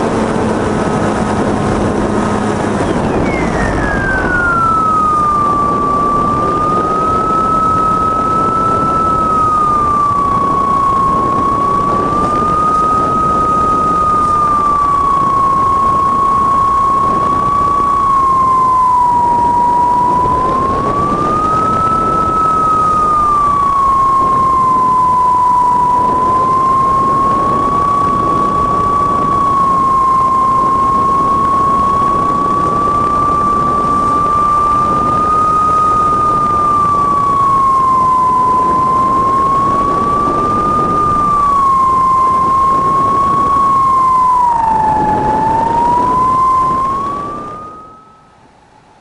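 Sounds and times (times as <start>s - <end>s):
model plane motor whine: 0.0s - 48.8s
wind noise: 0.0s - 49.0s.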